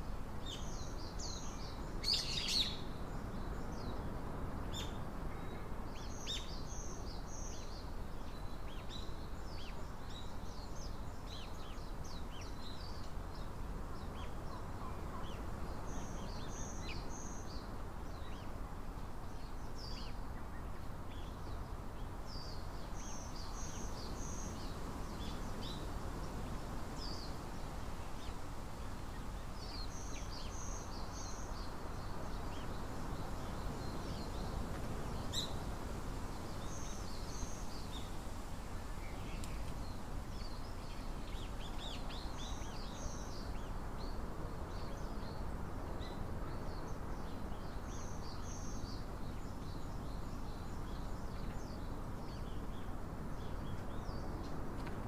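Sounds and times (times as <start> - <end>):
outdoor background noise: 0.0 - 55.0
small songbirds chirping: 0.0 - 55.0.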